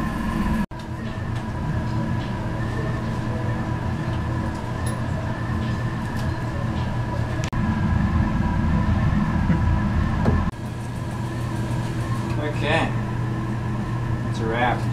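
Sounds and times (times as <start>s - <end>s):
mechanical hum: 0.0s - 14.9s
thin steady whine: 0.0s - 14.9s.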